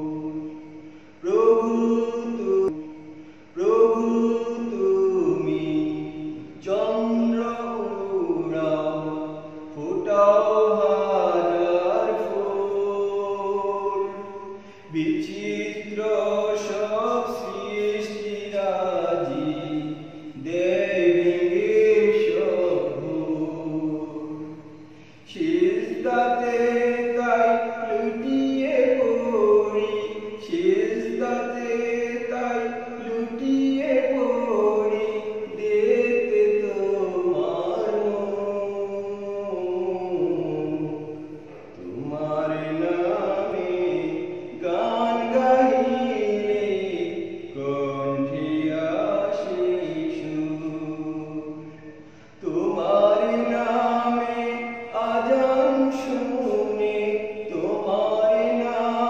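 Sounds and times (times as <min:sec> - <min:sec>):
person singing devotional song: 0:00.0 - 0:51.8, 0:52.4 - 0:59.0.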